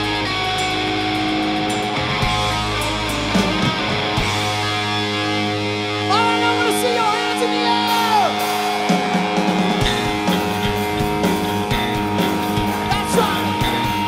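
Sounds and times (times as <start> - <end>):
distorted electric guitar: 0.0 - 14.0
hard rock band playing: 0.0 - 14.0.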